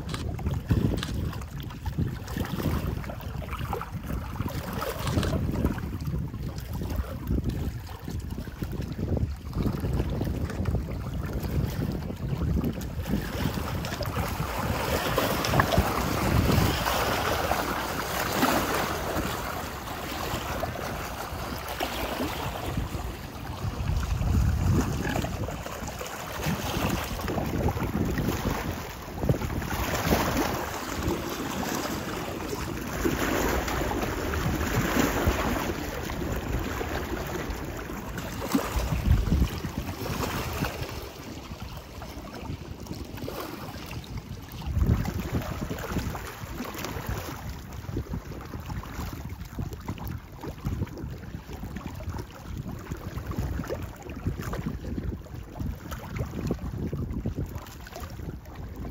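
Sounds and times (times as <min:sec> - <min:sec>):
water lapping against rocks: 0:00.0 - 0:58.9
wind buffeting microphone: 0:00.0 - 0:58.9.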